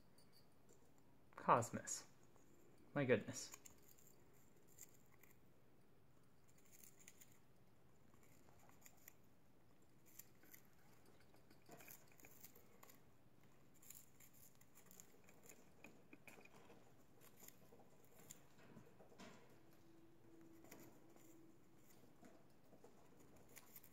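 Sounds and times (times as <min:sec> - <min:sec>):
birds chewing wood: 0:03.4 - 0:23.9.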